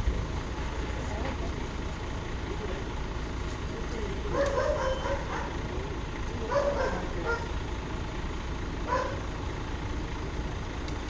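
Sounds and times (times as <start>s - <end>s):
heavy vehicle engine rumbling: 0.0s - 11.0s.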